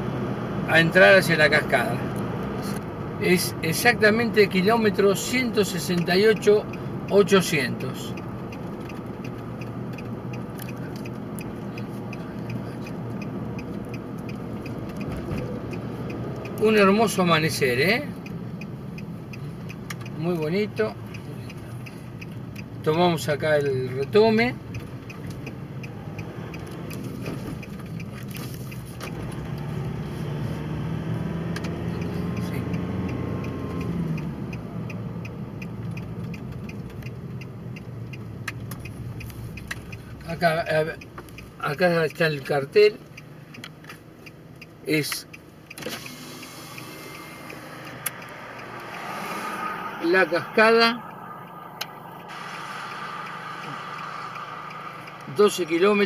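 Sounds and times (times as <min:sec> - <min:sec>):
car road and engine noise: 0:00.0 - 0:56.0
turn signal clicking: 0:01.7 - 0:56.0.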